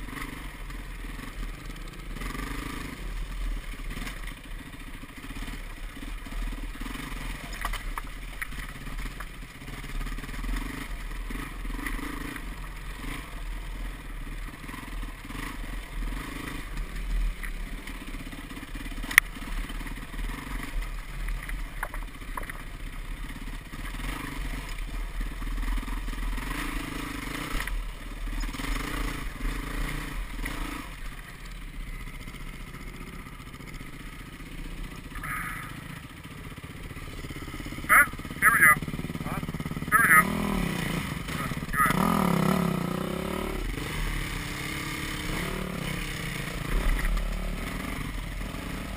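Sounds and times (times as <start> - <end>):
dirt bike engine revving: 0.0 - 21.3, 22.2 - 48.9.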